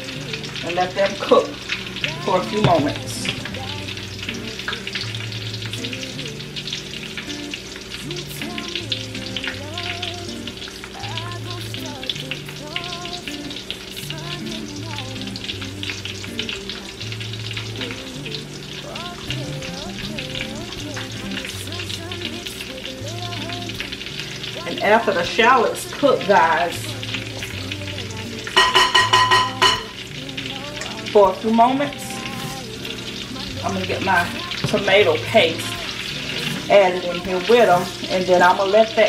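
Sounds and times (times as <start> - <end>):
shallots sizzling in hot oil: 0.0 - 39.0.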